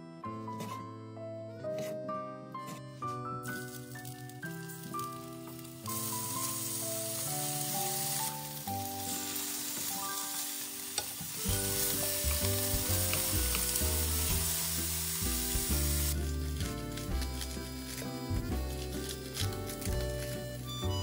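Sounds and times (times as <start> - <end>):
food sizzling in hot oil: 3.5 - 20.7.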